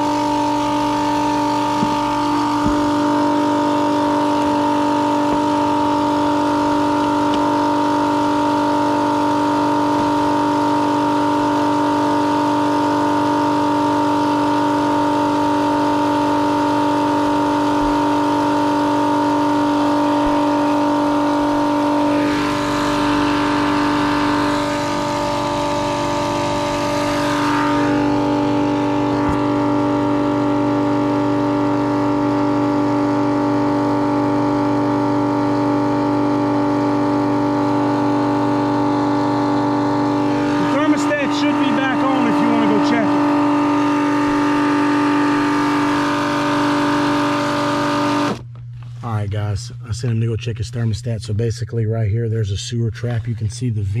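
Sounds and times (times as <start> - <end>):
pump motor whine: 0.0 - 50.2.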